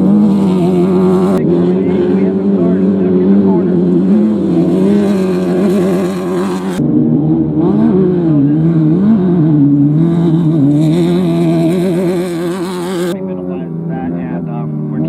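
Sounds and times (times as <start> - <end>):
race vehicle engines running: 0.0 - 15.0.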